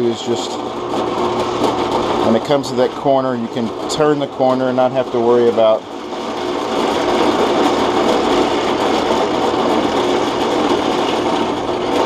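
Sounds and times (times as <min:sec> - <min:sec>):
drill press cutting wood: 0:00.0 - 0:12.0.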